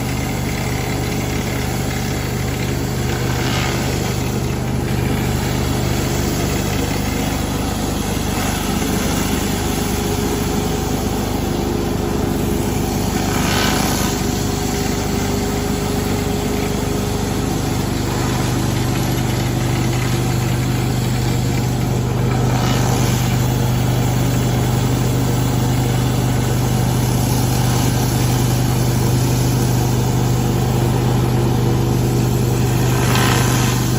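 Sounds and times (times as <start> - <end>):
pressure washer engine running: 0.0 - 33.9
water spray hissing on concrete: 0.0 - 33.9.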